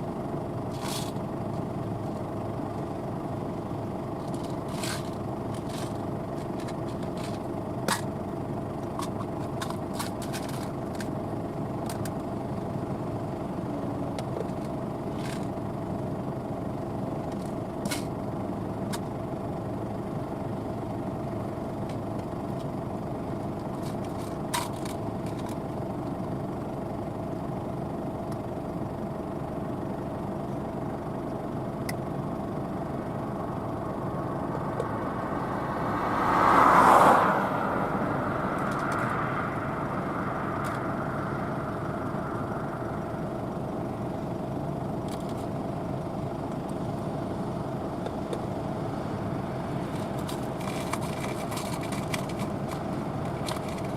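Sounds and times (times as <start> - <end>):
combine harvester drone: 0.0 - 53.9.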